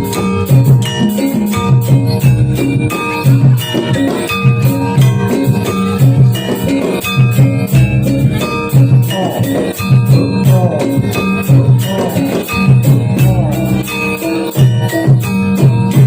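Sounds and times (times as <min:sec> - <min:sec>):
gliding melodic line: 0:00.0 - 0:16.0
percussion ensemble playing: 0:00.0 - 0:16.0.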